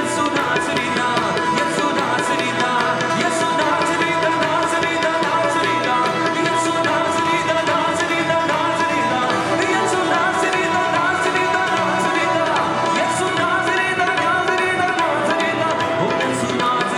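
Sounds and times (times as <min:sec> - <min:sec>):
worship band playing: 0:00.0 - 0:16.9.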